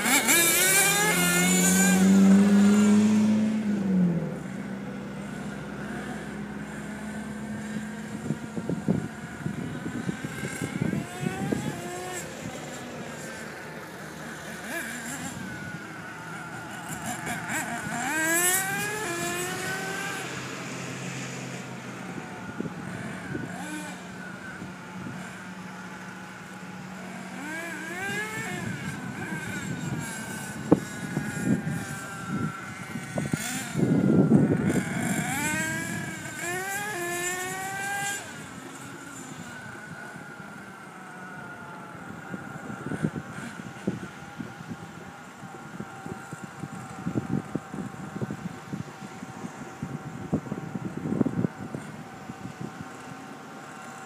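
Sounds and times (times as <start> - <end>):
small two-stroke engine revving: 0.0 - 54.0.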